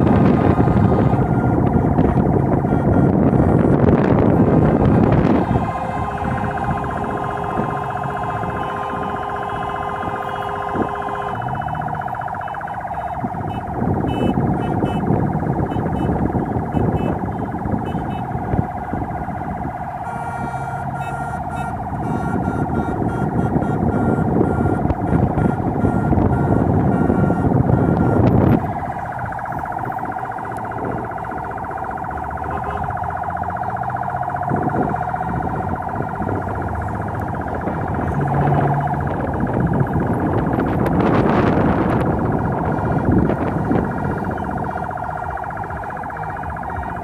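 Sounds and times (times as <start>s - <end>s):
moving car rumble: 0.0s - 47.0s
pulsing electronic siren: 0.0s - 47.0s.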